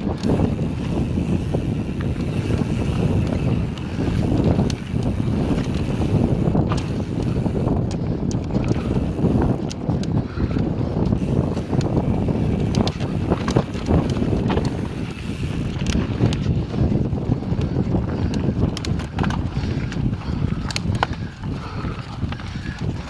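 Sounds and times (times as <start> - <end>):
bike clicks and rattles: 0.0 - 23.0
bike tyres rolling on dirt: 0.0 - 23.0
wind rushing over microphone: 0.0 - 23.0.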